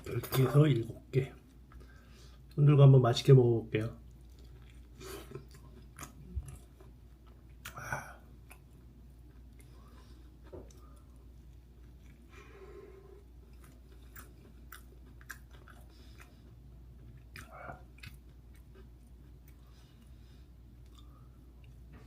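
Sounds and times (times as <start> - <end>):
chewing dumpling: 4.0 - 22.0.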